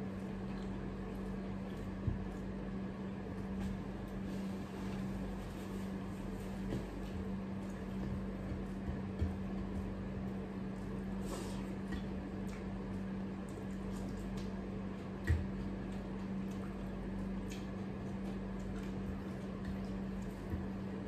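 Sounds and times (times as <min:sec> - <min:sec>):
chewing and wet mouth sounds: 0:00.0 - 0:04.1, 0:06.7 - 0:21.0
low steady hum: 0:00.0 - 0:21.0.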